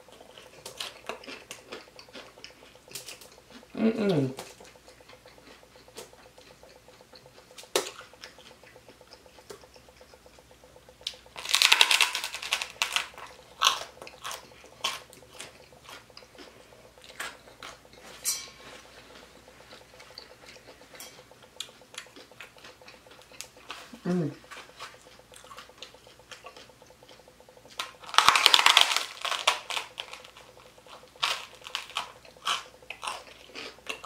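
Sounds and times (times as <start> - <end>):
crunching fried pork skin: 0.1 - 34.0.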